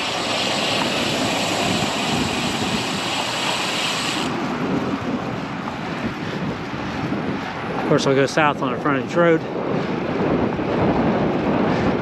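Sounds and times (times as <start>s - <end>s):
road traffic noise: 0.0s - 12.0s
wind rushing over microphone: 0.0s - 12.0s.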